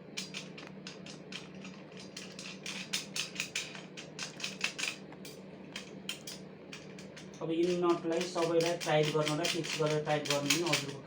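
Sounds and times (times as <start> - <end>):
metal clicks of nuts and bolts: 0.2 - 11.0.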